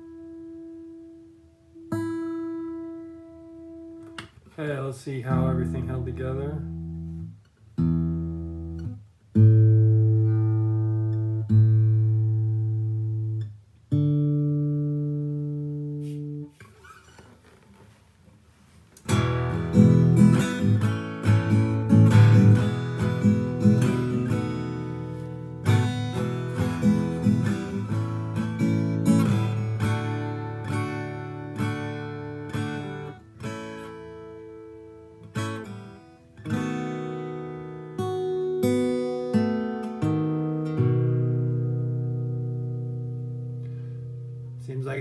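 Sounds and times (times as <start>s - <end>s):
guitar strummed and picked: 0.0s - 17.8s, 18.9s - 45.0s.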